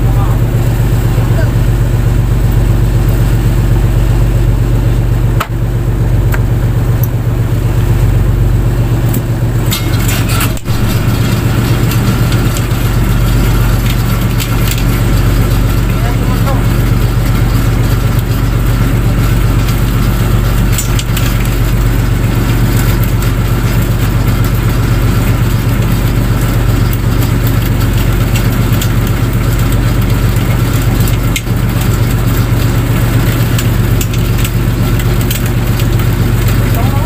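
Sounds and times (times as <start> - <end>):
boat engine humming: 0.0 - 37.0.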